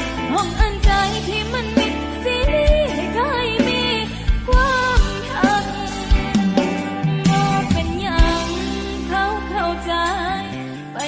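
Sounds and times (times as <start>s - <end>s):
gliding lead melody: 0.0s - 11.0s
steady bass: 0.0s - 11.0s.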